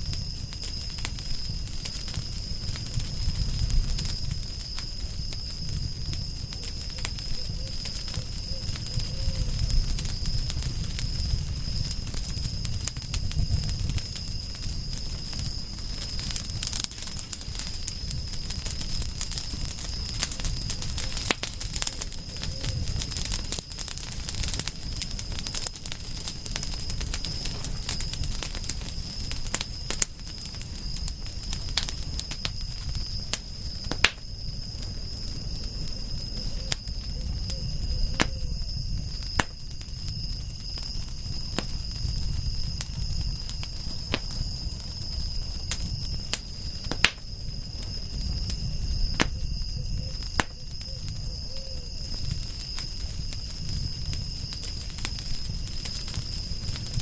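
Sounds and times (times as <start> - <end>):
wood campfire crackling: 0.0 - 57.0.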